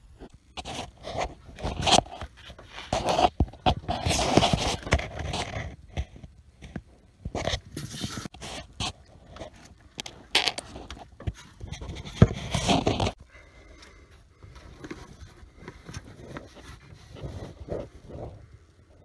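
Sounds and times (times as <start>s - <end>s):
metal line scraping and clicking: 0.2s - 18.5s
handling rustling: 0.3s - 18.6s.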